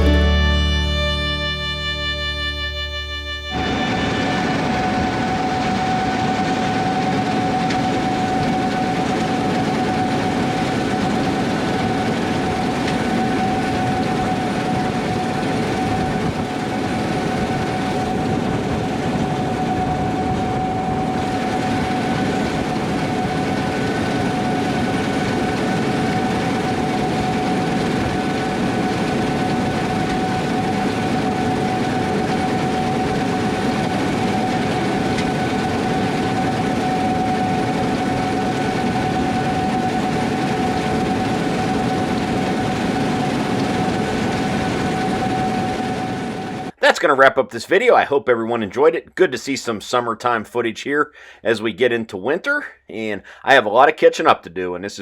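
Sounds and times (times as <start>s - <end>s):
combine harvester running: 0.0s - 46.8s
high whine: 0.0s - 47.1s.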